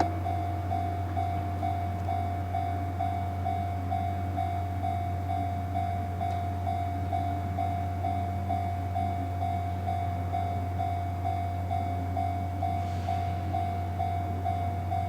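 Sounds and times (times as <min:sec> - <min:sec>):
low rail vehicle drone: 0:00.0 - 0:15.0.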